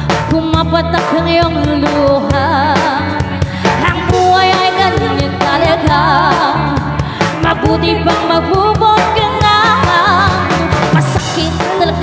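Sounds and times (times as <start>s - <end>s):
live band playing pop song: 0.0s - 12.0s.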